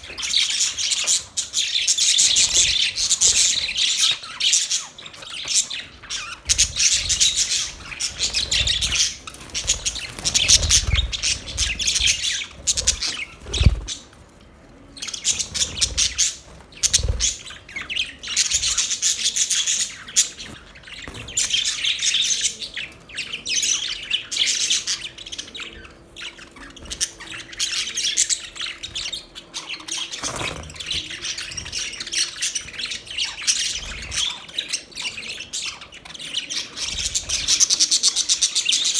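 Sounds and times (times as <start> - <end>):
budgerigars chirping: 0.0 - 14.2, 15.0 - 38.9.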